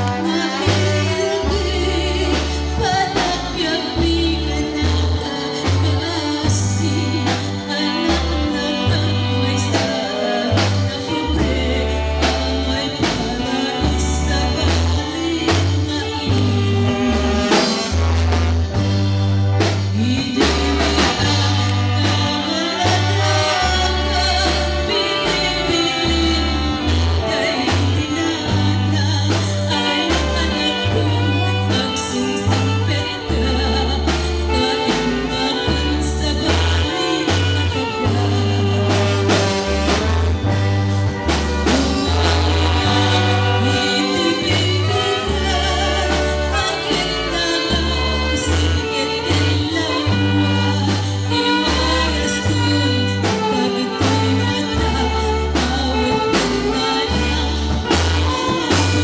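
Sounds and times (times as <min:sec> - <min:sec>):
electric bass: 0:00.0 - 0:59.0
keyboard: 0:00.0 - 0:59.0
trombone: 0:00.0 - 0:59.0
woman singing into a microphone: 0:00.0 - 0:59.0.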